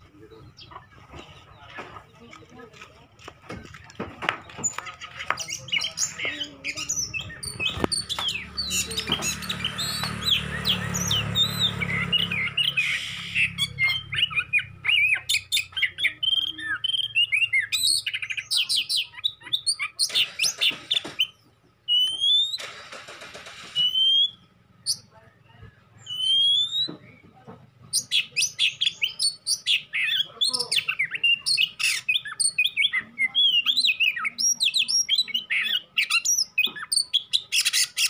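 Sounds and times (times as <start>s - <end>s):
birds chirping and singing: 0.0s - 38.0s.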